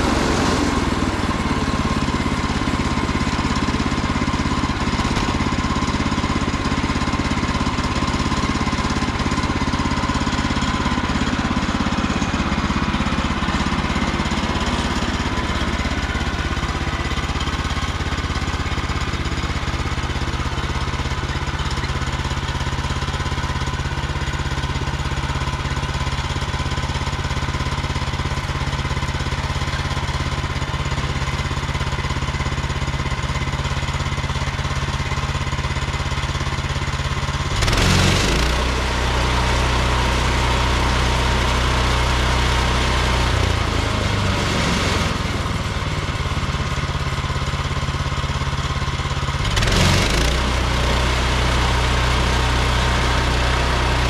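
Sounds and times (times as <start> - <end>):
sawmill engine running under load: 0.0 - 54.0.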